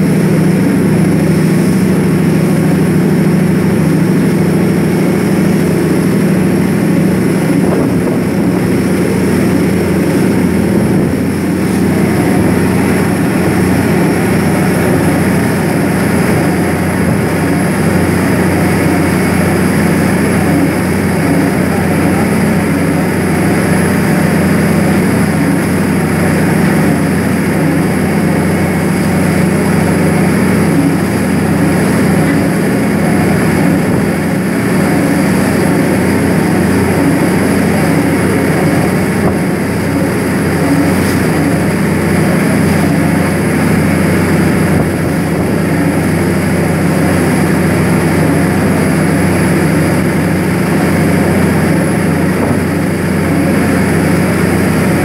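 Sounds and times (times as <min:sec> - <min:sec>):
boat diesel engine droning: 0:00.0 - 0:55.0
wake water rushing: 0:00.0 - 0:55.0.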